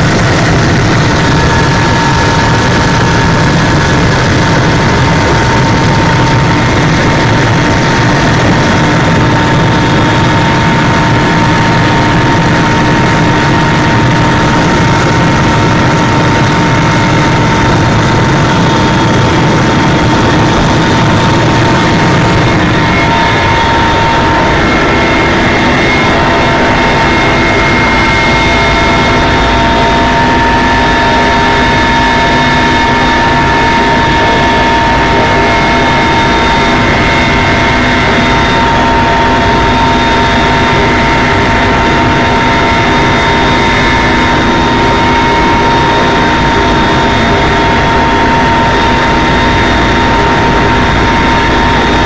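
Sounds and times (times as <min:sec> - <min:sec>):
helicopter turbine and rotor noise: 0:00.0 - 0:52.0.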